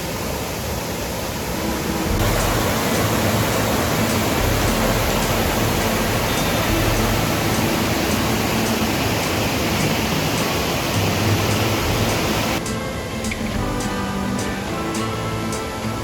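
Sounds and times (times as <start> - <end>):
waterfall roaring: 0.0 - 16.0
music: 1.6 - 16.0.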